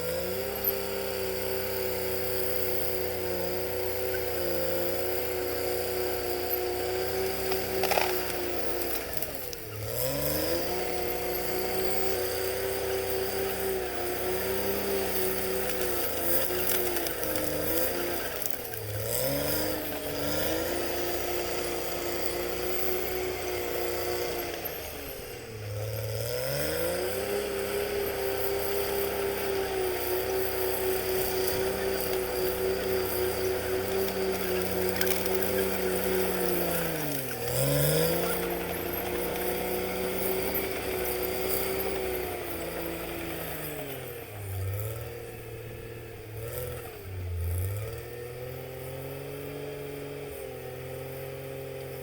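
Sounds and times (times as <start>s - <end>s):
bulldozer diesel engine lugging: 0.0s - 50.2s.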